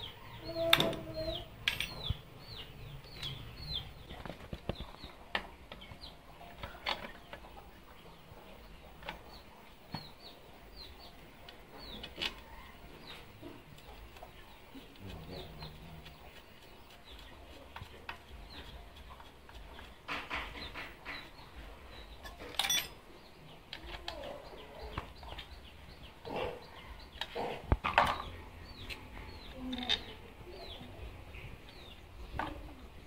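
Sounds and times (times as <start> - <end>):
chickens clucking: 0.0 - 22.5, 23.1 - 32.9
birds chirping: 0.0 - 33.0.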